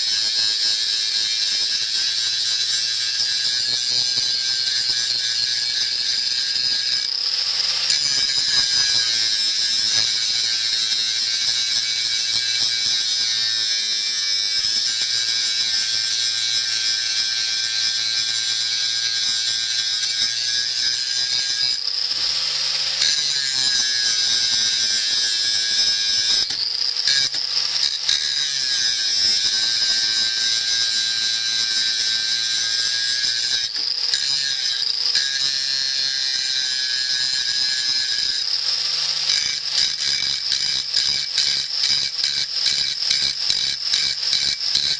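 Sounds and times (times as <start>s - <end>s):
power grinder whining on steel: 0.0s - 44.9s.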